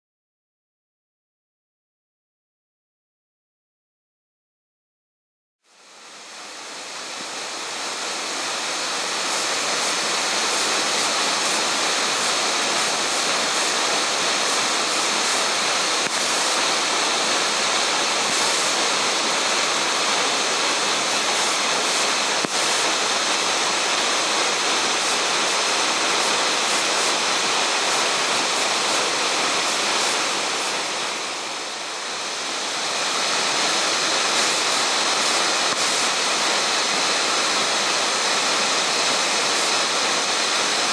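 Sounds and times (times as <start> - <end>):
waterfall rushing: 5.7 - 40.9.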